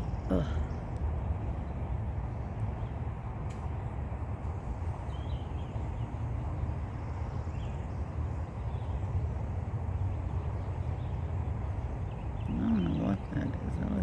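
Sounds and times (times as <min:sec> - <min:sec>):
birds chirping: 0:00.0 - 0:03.8, 0:04.4 - 0:14.0.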